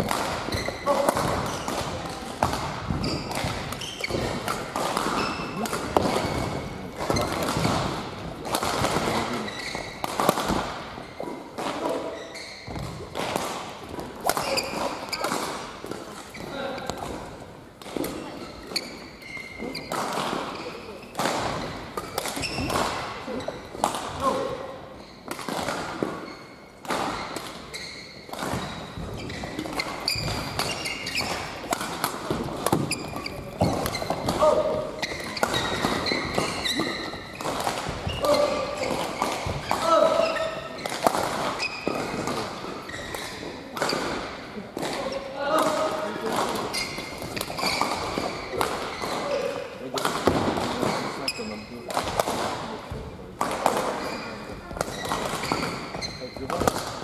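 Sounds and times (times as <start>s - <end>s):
rackets striking shuttlecock: 0.0s - 17.2s, 19.6s - 24.2s, 25.2s - 51.0s, 51.9s - 57.0s
shoes squeaking on court: 0.4s - 10.3s, 11.0s - 13.2s, 14.3s - 16.9s, 18.0s - 23.7s, 24.9s - 25.3s, 26.0s - 44.1s, 46.0s - 49.5s, 50.8s - 51.9s, 53.8s - 57.0s.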